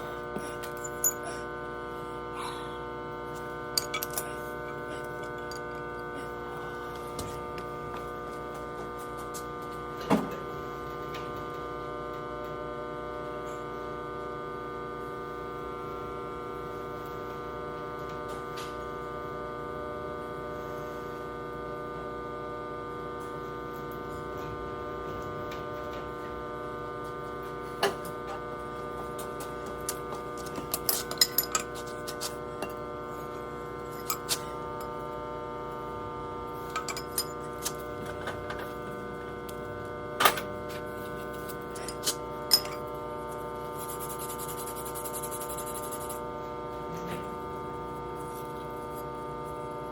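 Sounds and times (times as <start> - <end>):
electrical hum: 0.0 - 49.9.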